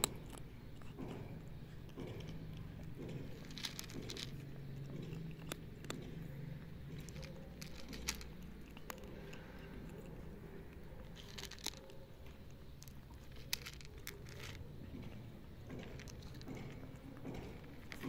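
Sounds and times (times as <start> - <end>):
cat crunching dry kibble: 0.0 - 18.0.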